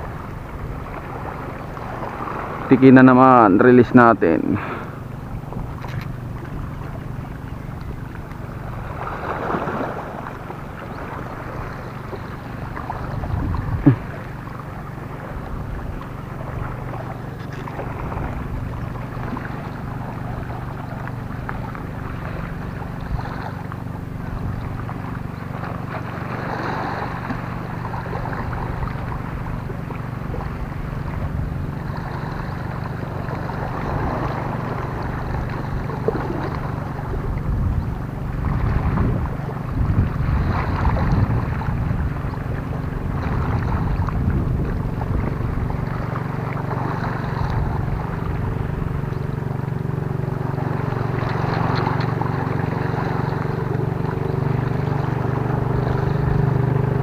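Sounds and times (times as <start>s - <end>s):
water lapping against rocks: 0.0s - 3.5s, 4.2s - 57.0s
wind buffeting microphone: 0.0s - 57.0s.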